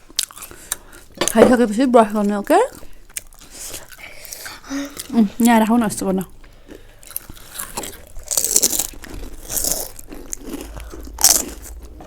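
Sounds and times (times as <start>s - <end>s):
crunchy chips being chewed: 0.0s - 1.2s, 2.2s - 5.6s, 6.4s - 12.0s.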